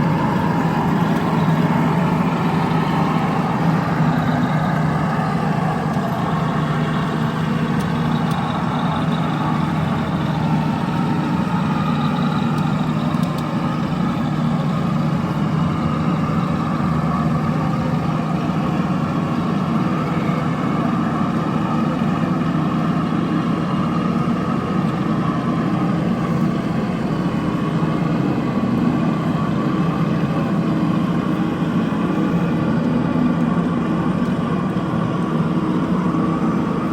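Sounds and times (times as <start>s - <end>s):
vehicle engines droning: 0.0s - 36.9s.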